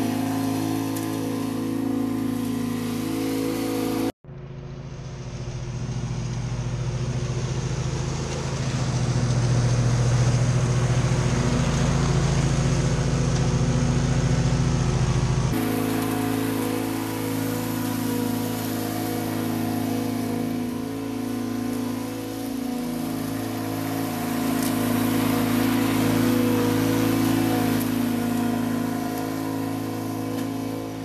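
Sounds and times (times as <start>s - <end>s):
riding mower engine running: 0.0s - 31.0s.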